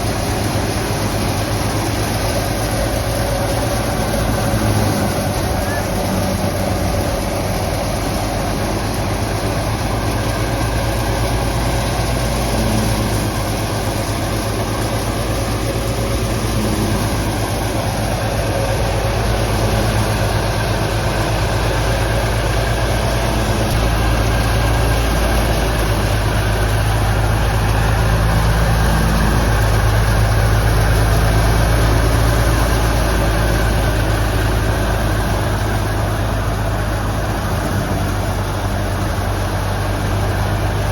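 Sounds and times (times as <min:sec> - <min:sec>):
dense machine noise: 0:00.0 - 0:40.9
thresher engine drone: 0:00.0 - 0:40.9.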